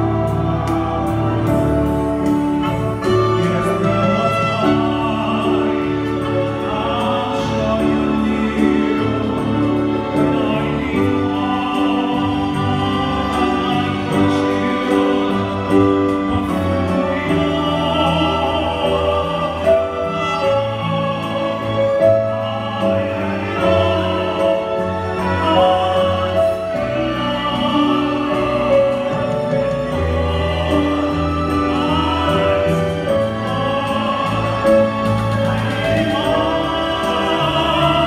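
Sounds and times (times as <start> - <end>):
man singing through pa system: 3.0 - 38.0.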